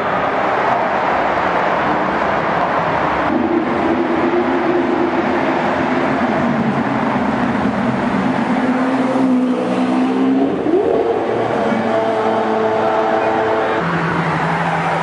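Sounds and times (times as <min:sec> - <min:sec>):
car engine echoing in tunnel: 0:00.0 - 0:15.0.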